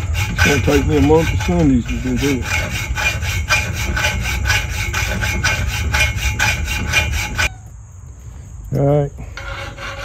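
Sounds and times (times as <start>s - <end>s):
hacksaw cutting metal: 0.0s - 7.5s, 9.4s - 10.0s.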